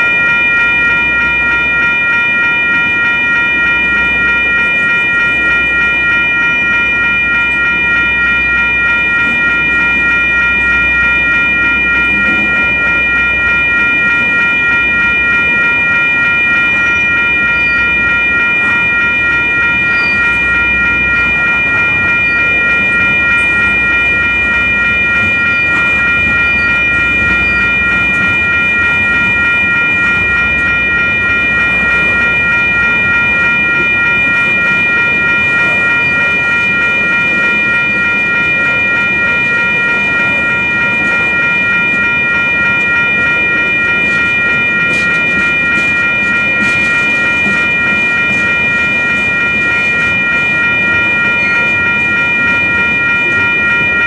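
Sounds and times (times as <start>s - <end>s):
electronic crossing bells ringing: 0.0s - 54.0s.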